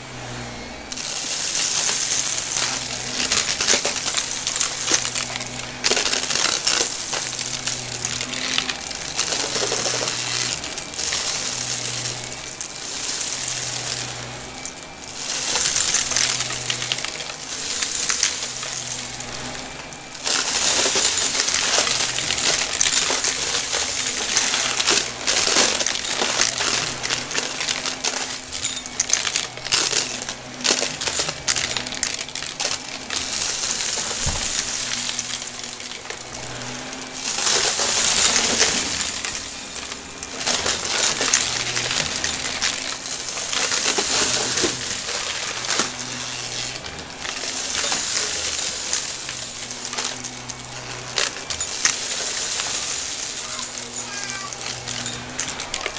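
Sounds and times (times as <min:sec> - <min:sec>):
vacuum cleaner running: 0:00.0 - 0:55.9
debris clicking and rattling: 0:00.9 - 0:55.9.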